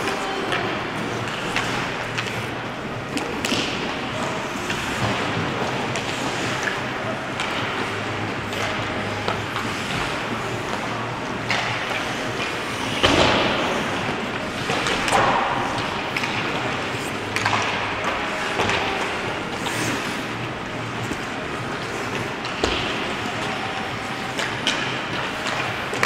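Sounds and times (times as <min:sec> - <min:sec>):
hockey sticks hitting puck: 0:00.0 - 0:26.0
skates scraping ice: 0:00.0 - 0:26.0.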